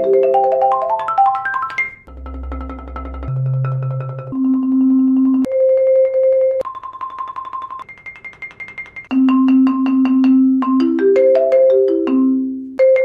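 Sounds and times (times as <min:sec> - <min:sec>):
marimba rolls: 0:00.0 - 0:13.0.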